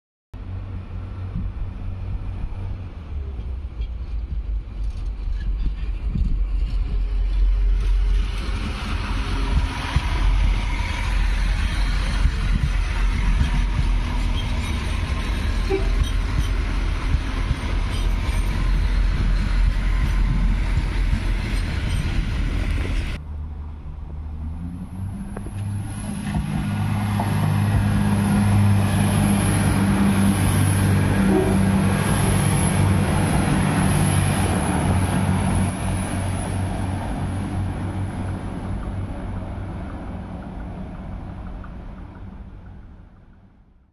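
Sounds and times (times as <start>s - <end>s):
diesel train engines droning: 0.4s - 43.7s
wheels rumbling on rails: 0.4s - 43.9s.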